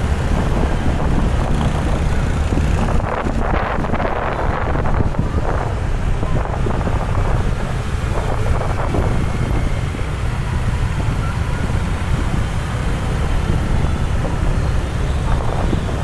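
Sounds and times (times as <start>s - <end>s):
slow-moving traffic: 0.0s - 16.0s
wind rumble on microphone: 0.0s - 16.0s.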